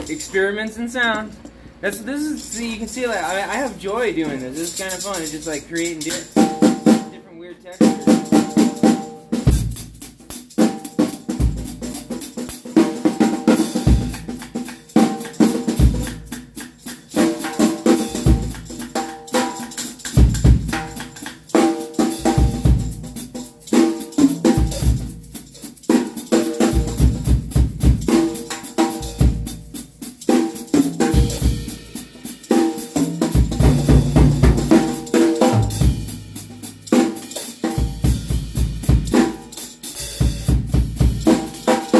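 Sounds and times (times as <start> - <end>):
acoustic drum kit playing: 0.0 - 41.9
tambourine jangling: 0.0 - 41.9.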